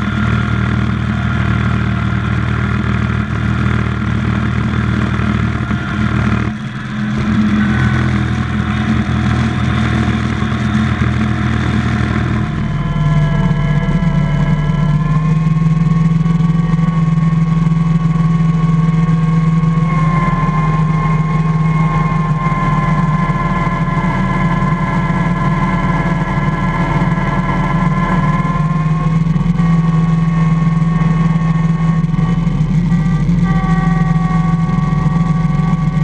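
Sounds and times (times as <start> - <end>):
garden tractor engine running: 0.0 - 36.0.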